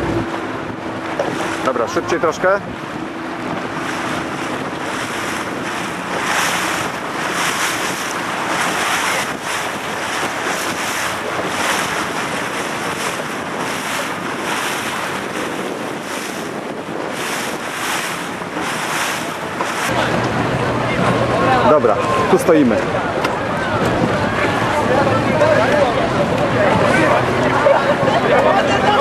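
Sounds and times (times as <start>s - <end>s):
water splashing around boat: 0.0s - 29.0s
wind buffeting microphone: 0.0s - 29.0s.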